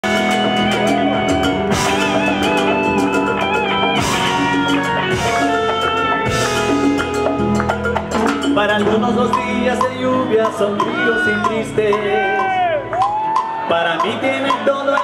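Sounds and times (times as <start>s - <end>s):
electric guitar melody: 0.0s - 14.2s
bass line: 0.0s - 15.0s
hand percussion: 0.0s - 15.0s.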